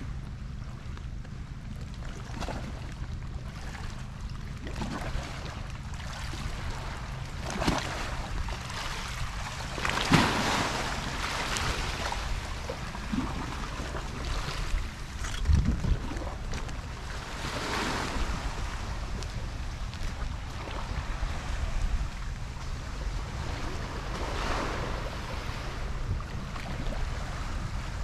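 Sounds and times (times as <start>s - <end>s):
wind rumbling on microphone: 0.0s - 28.0s
small waves washing against concrete: 1.9s - 28.0s.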